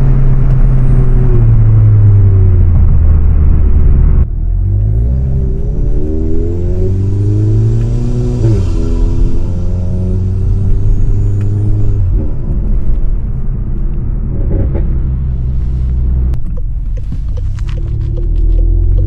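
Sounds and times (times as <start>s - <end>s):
turbocharged car engine under load: 0.0s - 19.0s.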